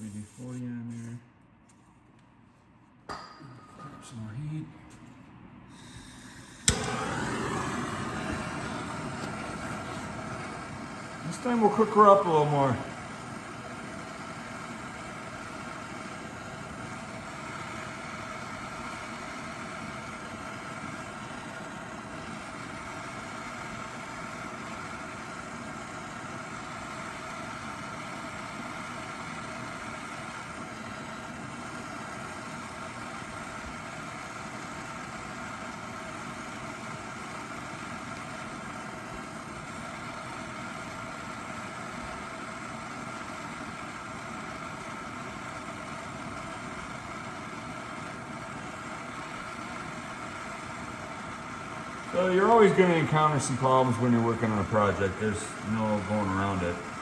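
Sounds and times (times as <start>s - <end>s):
gas torch flame hissing: 5.7s - 57.0s.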